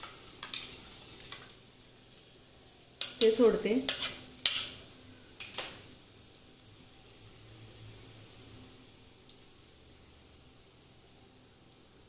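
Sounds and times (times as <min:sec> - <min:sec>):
egg sizzling in a frying pan: 0:00.0 - 0:12.0.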